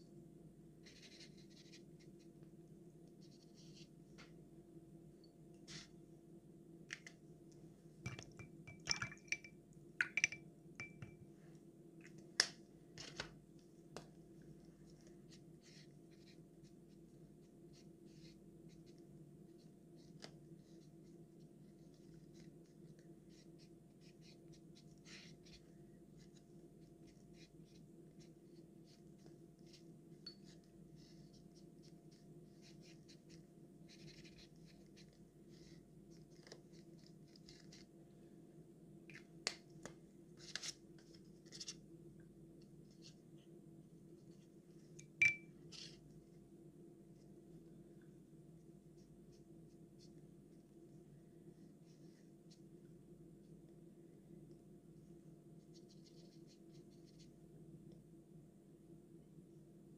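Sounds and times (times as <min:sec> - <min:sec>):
low room hum: 0:00.0 - 0:59.9.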